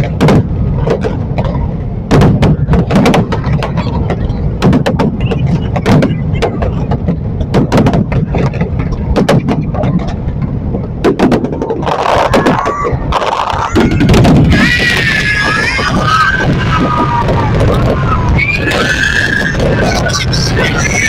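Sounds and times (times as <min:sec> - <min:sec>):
fireworks bursting with sharp bangs: 0:00.0 - 0:21.0
low rumble: 0:00.0 - 0:21.0.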